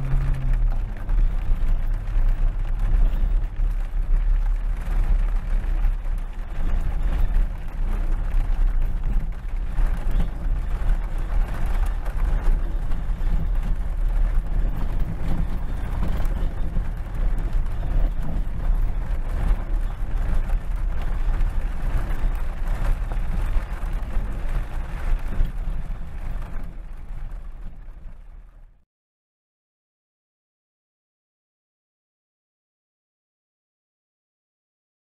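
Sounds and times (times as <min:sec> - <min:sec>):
engine rumbling unevenly: 0:00.0 - 0:28.8.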